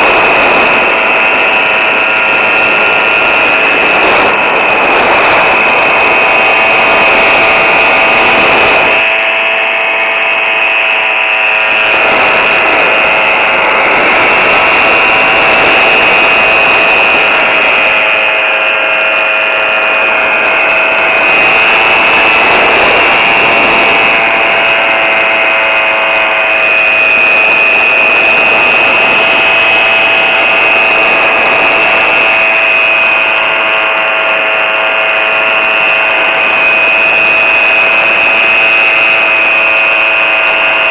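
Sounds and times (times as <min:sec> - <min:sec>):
paraglider motor buzzing: 0:00.0 - 0:40.9.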